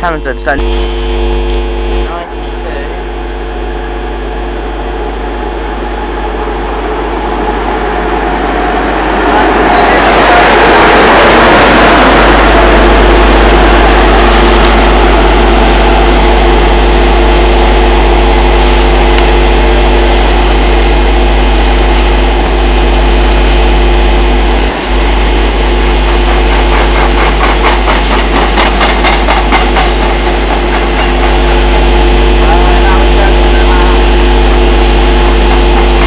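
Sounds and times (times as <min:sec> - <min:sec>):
electric hum: 0:00.0 - 0:27.4, 0:29.4 - 0:36.0
rumble of train wheels on rail: 0:02.3 - 0:36.0.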